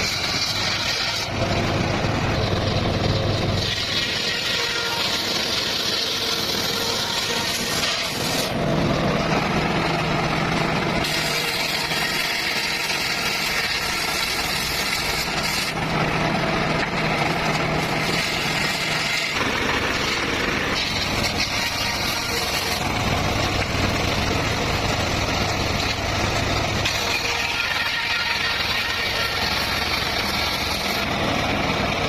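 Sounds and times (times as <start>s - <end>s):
circular saw cutting bamboo: 0.0s - 32.0s.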